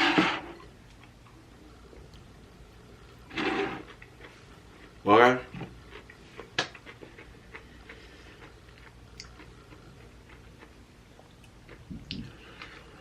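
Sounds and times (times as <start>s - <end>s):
person chewing food: 0.5s - 5.0s, 5.6s - 13.0s.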